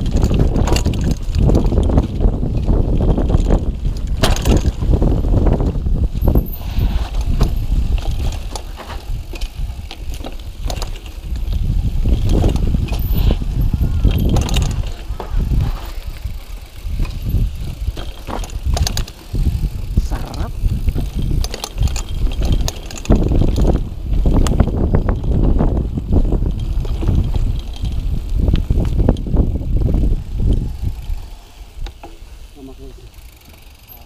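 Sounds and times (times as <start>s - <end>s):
bike parts clicking and rattling: 0.0s - 34.0s
bike tyres rumbling over rough ground: 0.0s - 34.0s.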